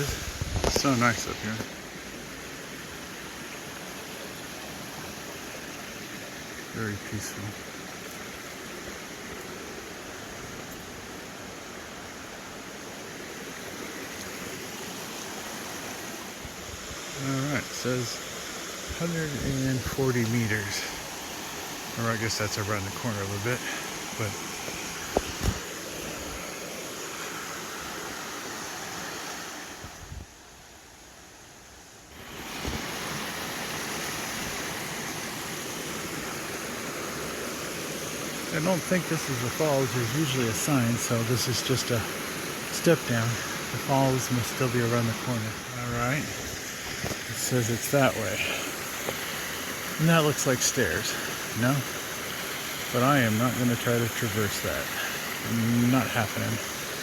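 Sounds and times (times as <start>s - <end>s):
waterfall cascading into pond: 0.0s - 30.0s, 32.1s - 57.0s.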